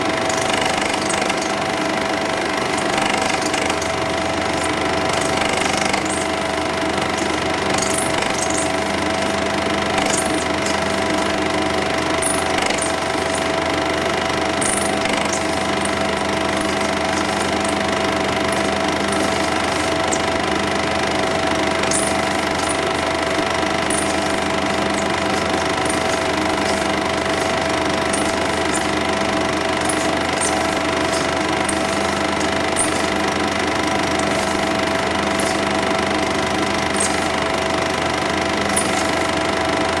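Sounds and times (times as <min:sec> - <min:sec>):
constant hum: 0:00.0 - 0:40.0
film projector whirring and clattering: 0:00.0 - 0:40.0.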